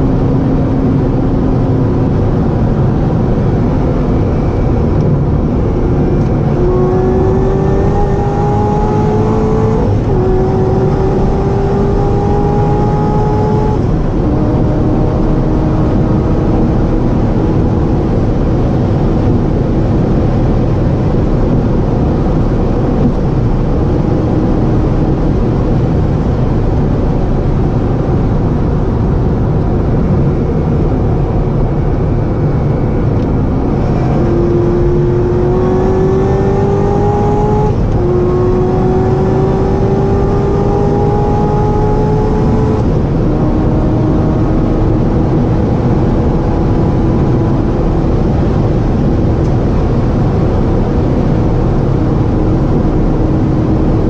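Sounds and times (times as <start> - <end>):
car engine note climbing: 0.0 - 54.0
wind and tyre roar: 0.0 - 54.0.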